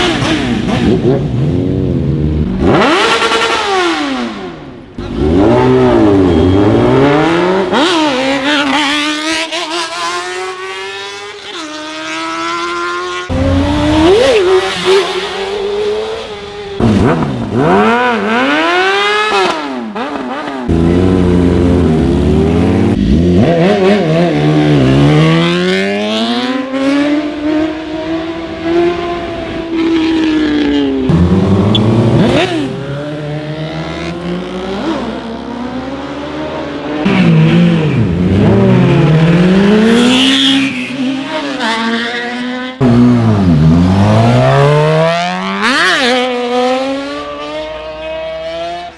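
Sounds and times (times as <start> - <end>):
motorcycles accelerating and passing by: 0.0 - 48.9.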